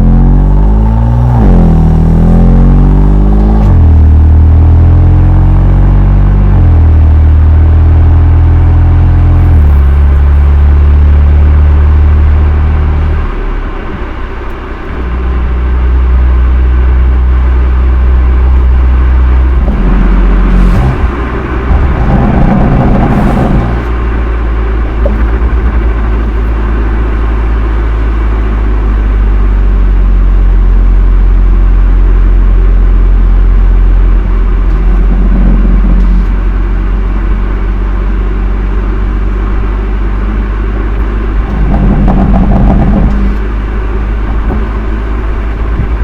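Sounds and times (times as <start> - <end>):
car exhaust accelerating: 0.0 - 46.0.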